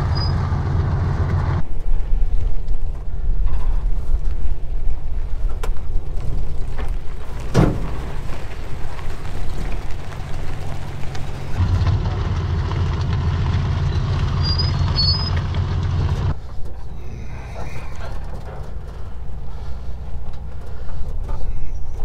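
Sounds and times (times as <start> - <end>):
van engine running: 0.0 - 1.6, 4.6 - 22.0.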